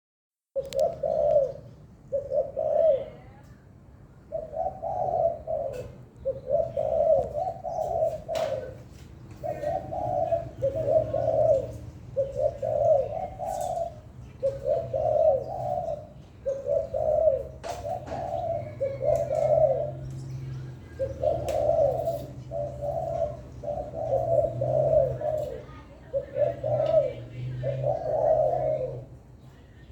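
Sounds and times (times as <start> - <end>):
dove cooing: 0.6 - 29.9.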